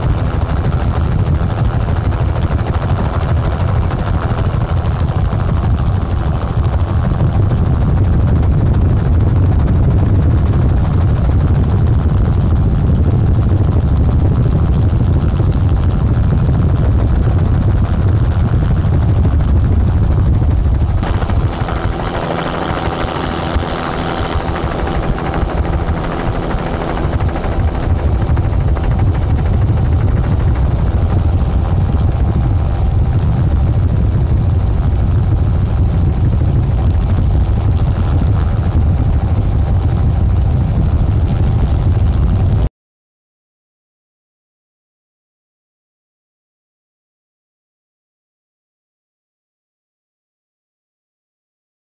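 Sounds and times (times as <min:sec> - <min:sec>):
helicopter rotor and engine: 0:00.0 - 0:42.7.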